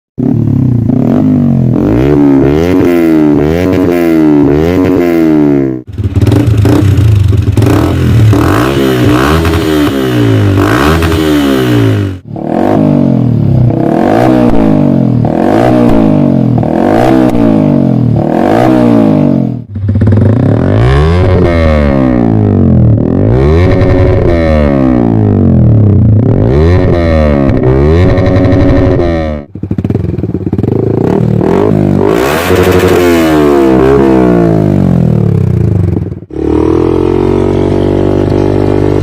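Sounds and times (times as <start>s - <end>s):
motorcycle engine revving: 0.2s - 39.0s.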